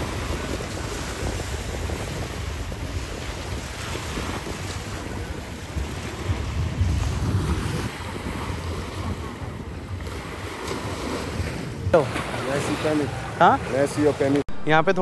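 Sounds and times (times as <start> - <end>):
small waves washing: 0.0 - 14.4
wind buffeting microphone: 0.0 - 14.7.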